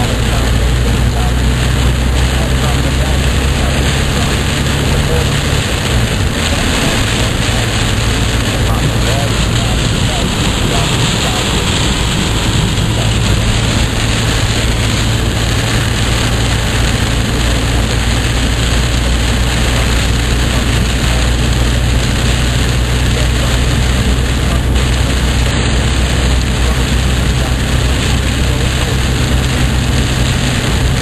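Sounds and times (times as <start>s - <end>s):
car engine and road drone: 0.0s - 31.0s
rain hissing on car: 0.0s - 31.0s.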